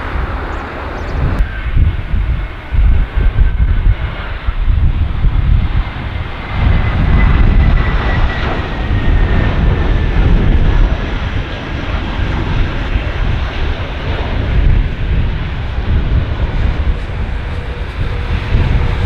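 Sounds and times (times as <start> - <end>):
jet engines with high whine: 0.0 - 19.0
wind buffeting microphone: 0.0 - 19.0.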